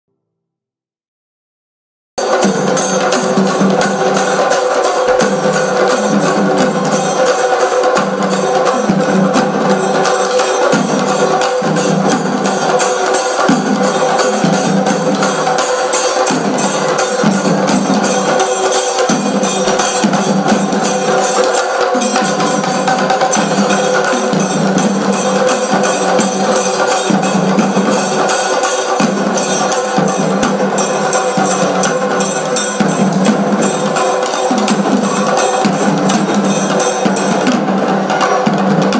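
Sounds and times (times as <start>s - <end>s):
barrel drums beating fast: 2.2s - 38.9s.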